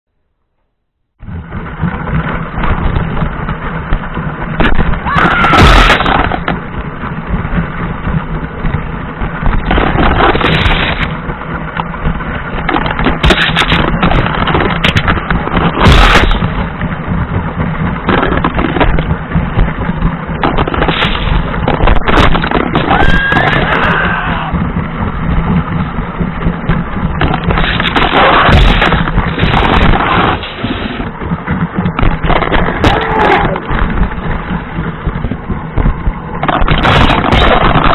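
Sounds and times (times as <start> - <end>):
wheels rattling over rail joints: 0.5 - 37.9.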